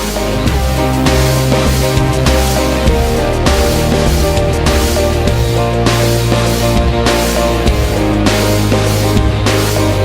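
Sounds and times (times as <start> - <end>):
rock music with distorted guitar: 0.0 - 10.0.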